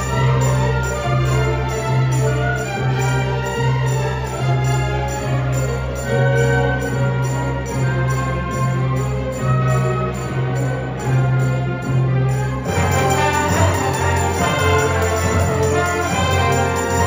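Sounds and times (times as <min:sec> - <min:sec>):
symphony orchestra playing: 0:00.0 - 0:17.0.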